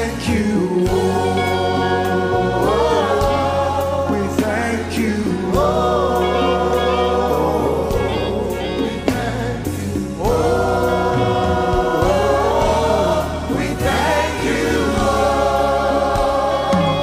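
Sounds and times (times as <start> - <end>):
band accompaniment: 0.0 - 17.0
choir singing held notes: 0.0 - 17.0.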